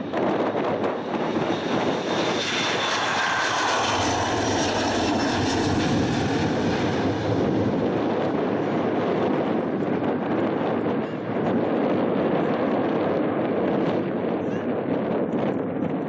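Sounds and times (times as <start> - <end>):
jet engines roaring at takeoff: 0.0 - 16.0.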